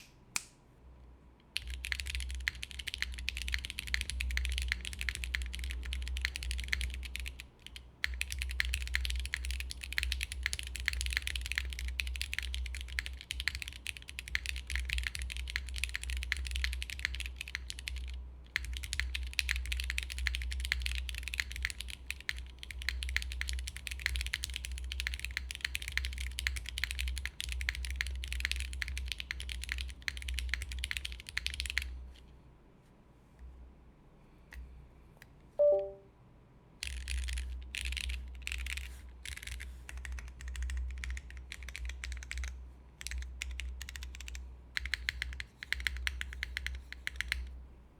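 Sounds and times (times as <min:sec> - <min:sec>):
mechanical keyboard typing: 0:01.6 - 0:31.9, 0:35.6 - 0:36.0, 0:36.8 - 0:47.5.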